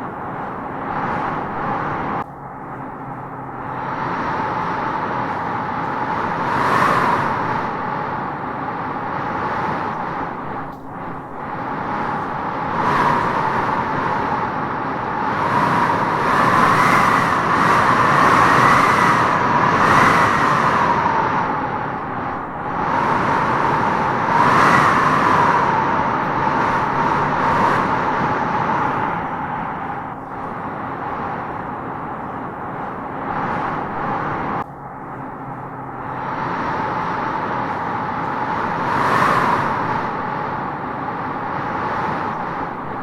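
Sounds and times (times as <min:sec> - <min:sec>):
wind howling through trees: 0:00.0 - 0:43.0.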